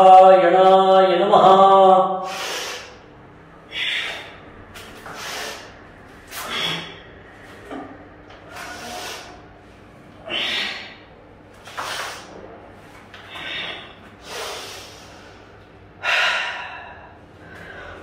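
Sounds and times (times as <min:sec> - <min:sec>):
man breathing hard: 0:02.2 - 0:12.4, 0:13.2 - 0:18.0.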